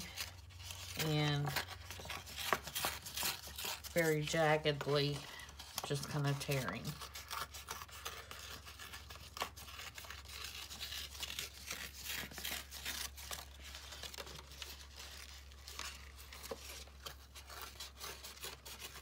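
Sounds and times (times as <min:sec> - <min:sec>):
paper rustling: 0:00.0 - 0:19.0
paper tearing: 0:00.0 - 0:19.0.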